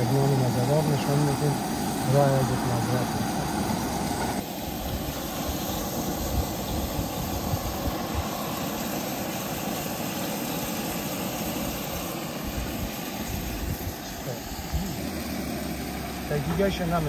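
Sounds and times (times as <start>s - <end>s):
camp stove low rumble: 0.0s - 17.0s.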